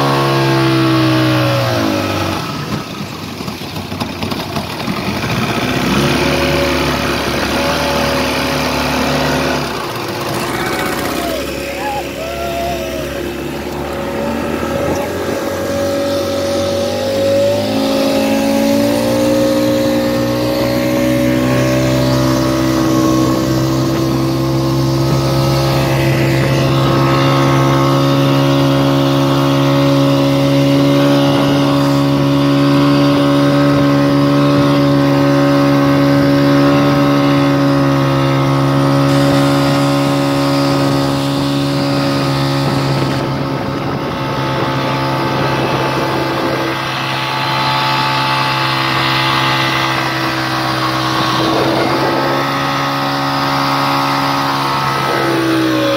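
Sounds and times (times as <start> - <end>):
speedboat engine revving: 0.0 - 55.9
water rushing past hull: 0.0 - 55.9.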